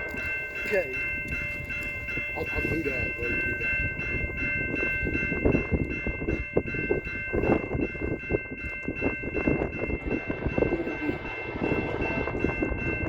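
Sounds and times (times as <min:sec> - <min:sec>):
steady high-pitched tones: 0:00.0 - 0:13.0
train rumble: 0:00.0 - 0:13.0.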